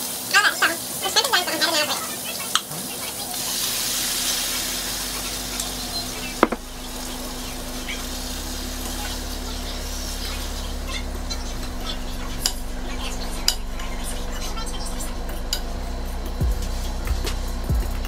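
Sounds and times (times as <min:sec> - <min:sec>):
food sizzling in a pot: 0:00.0 - 0:17.7.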